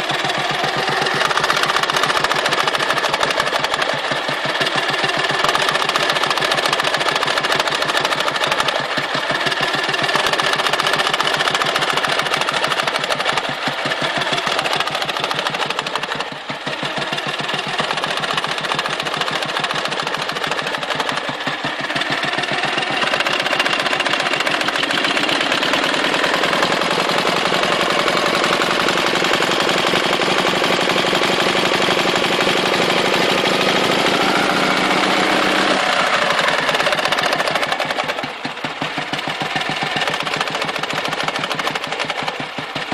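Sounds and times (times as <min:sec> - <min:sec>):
motorcycle engine knocking: 0:00.0 - 0:42.9.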